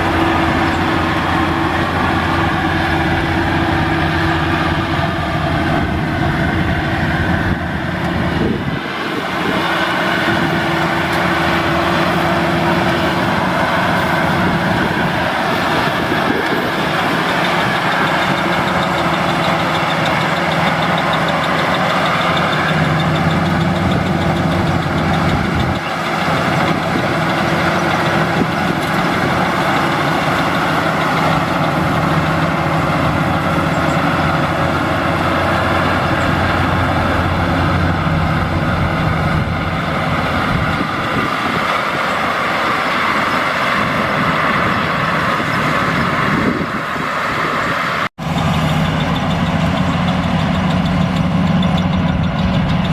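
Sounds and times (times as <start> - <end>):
combine harvester engine: 0.0 - 52.9.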